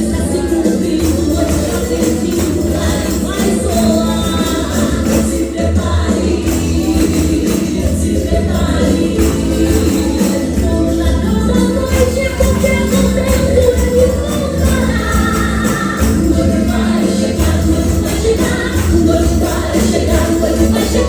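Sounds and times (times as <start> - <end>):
group singing: 0.0 - 21.0
frame drums with jingles: 0.4 - 21.0.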